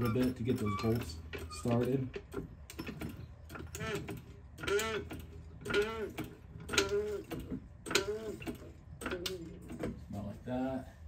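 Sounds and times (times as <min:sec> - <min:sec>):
jack squeaking while pumped: 0:00.0 - 0:09.9.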